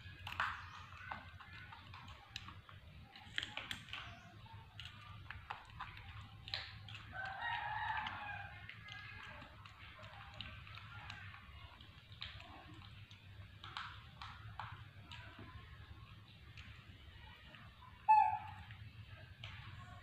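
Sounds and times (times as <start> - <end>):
monkey crunching cucumber: 0.0 - 20.0.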